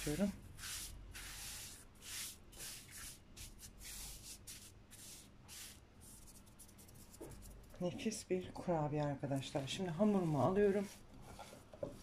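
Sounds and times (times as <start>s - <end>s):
hands rubbing sugar on cling film: 0.0s - 7.9s, 9.4s - 12.0s.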